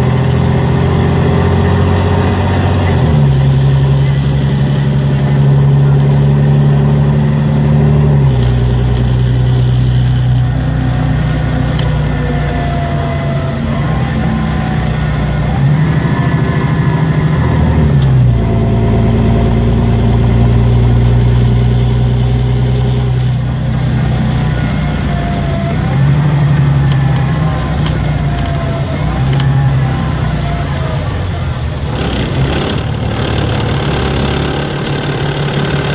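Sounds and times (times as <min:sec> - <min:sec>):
bus engine droning: 0:00.0 - 0:35.9.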